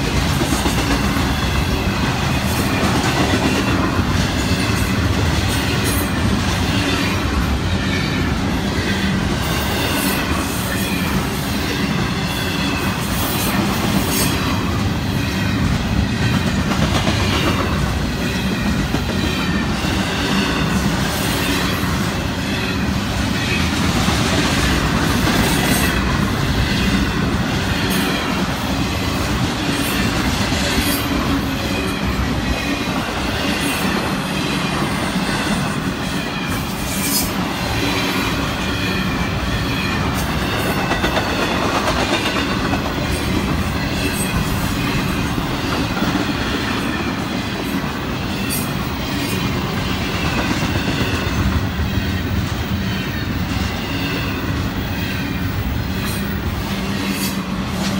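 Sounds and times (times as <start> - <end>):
steel wheels rumbling on rails: 0.0 - 57.9.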